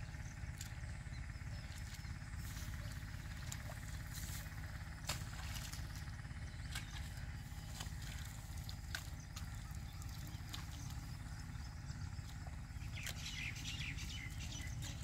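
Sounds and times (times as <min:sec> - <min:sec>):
wet splashes in mud: 0:01.6 - 0:15.0.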